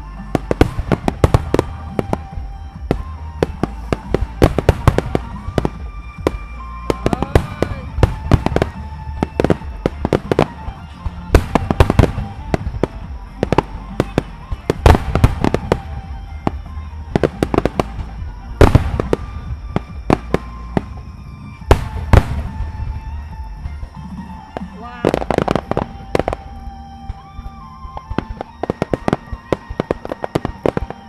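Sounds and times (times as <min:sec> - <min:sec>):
fireworks bangs and crackles: 0:00.0 - 0:31.0
loud firework booms: 0:00.0 - 0:31.0.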